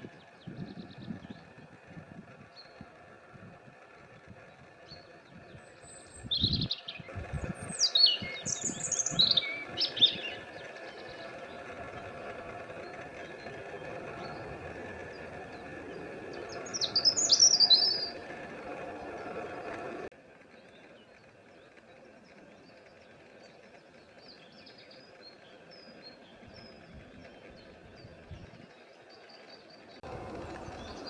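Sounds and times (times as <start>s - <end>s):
steady background noise: 0.0s - 31.0s
songbird singing: 3.7s - 31.0s.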